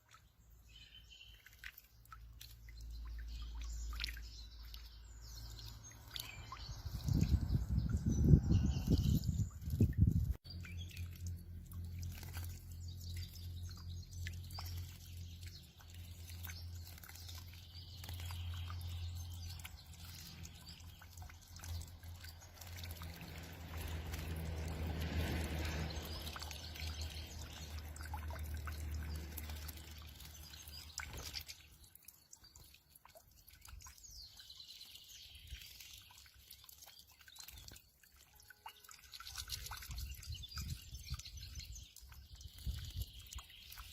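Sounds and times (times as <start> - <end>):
birds chirping: 0.0 - 43.9
water splashing and dripping: 0.0 - 43.9.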